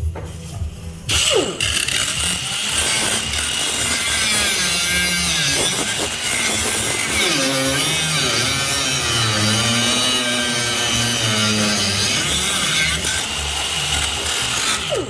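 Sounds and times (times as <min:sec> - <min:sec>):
power saw cutting: 0:01.1 - 0:15.0.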